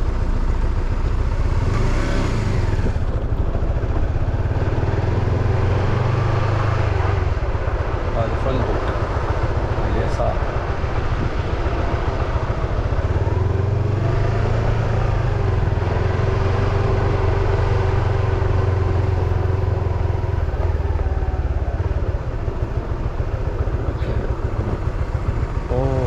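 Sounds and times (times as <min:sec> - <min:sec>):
car engines and road noise: 0:00.0 - 0:26.0.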